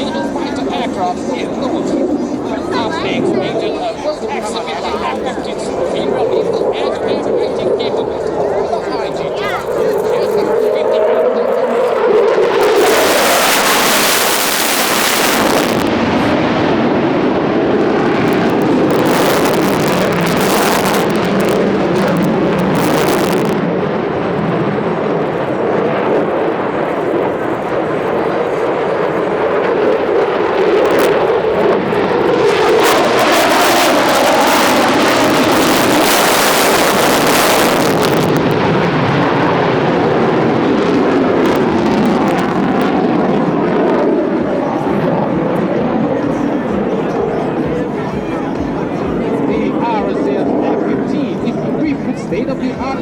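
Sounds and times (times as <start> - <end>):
fighter jet flying: 0.0 - 53.0.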